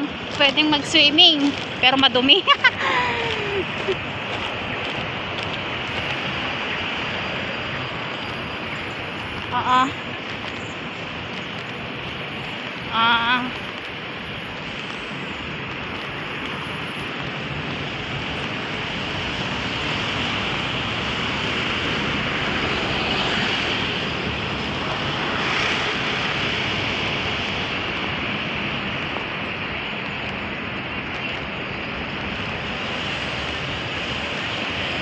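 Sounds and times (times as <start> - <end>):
steady rushing outdoor noise: 0.0 - 35.0.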